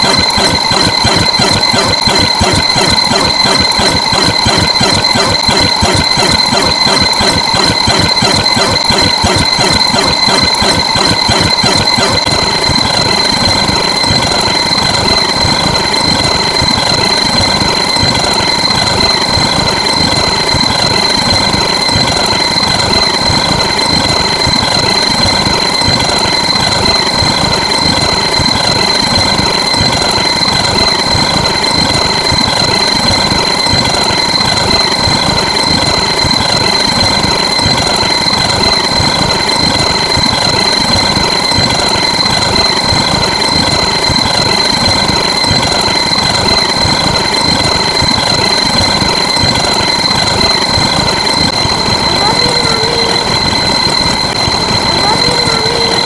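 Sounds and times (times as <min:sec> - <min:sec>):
high-pitched whine: 0:00.0 - 0:56.0.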